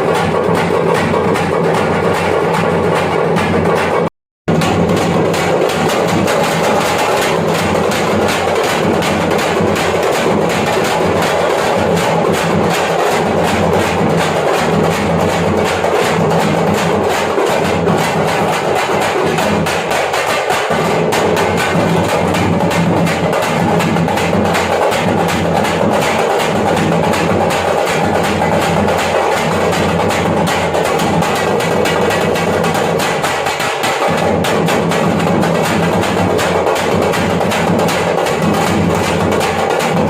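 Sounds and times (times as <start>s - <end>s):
frame drums in fast rhythm: 0.0s - 40.0s.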